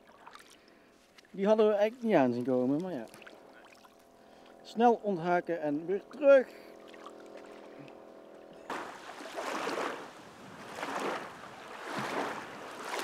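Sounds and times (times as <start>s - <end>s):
water lapping: 0.0s - 4.7s, 5.8s - 13.0s.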